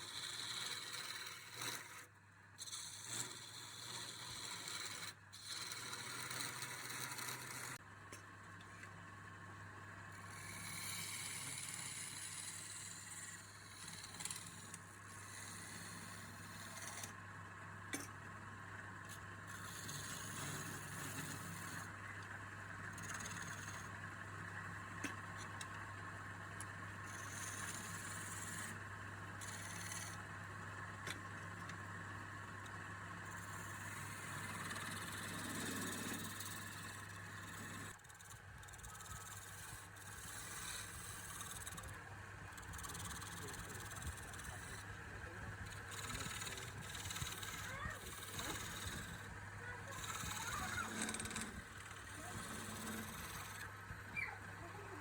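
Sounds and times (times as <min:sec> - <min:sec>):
wood lathe motor hum: 0:00.0 - 0:02.0, 0:02.6 - 0:07.8, 0:10.0 - 0:17.1, 0:18.6 - 0:55.0
turning tool scraping wood: 0:00.0 - 0:07.8, 0:10.2 - 0:17.2, 0:19.1 - 0:22.0, 0:22.8 - 0:24.0, 0:26.6 - 0:32.0, 0:32.6 - 0:54.8.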